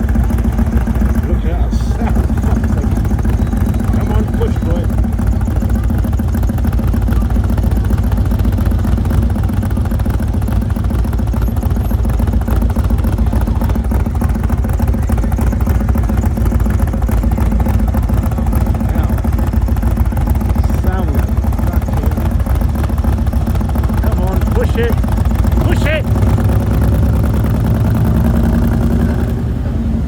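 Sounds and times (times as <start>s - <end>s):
engine idling with rumble: 0.0s - 30.0s.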